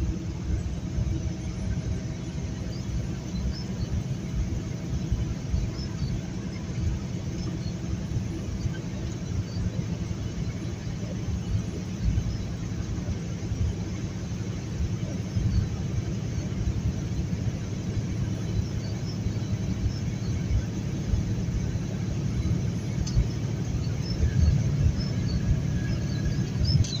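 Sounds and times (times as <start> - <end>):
truck engine and road noise: 0.0 - 27.0.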